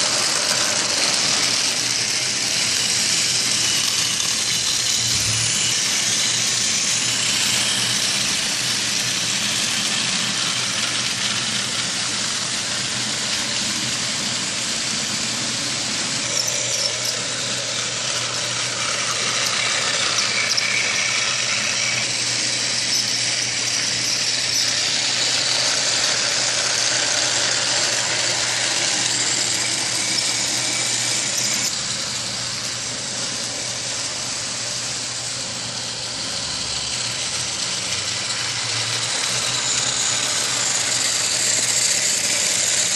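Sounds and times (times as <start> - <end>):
toy engine motor whirring: 0.0 - 42.9.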